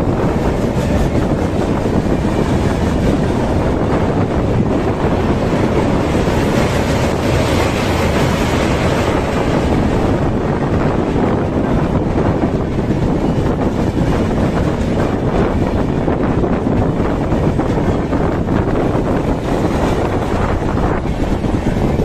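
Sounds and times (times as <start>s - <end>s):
train passing rumble: 0.0s - 22.0s
wind buffeting microphone: 0.0s - 22.0s.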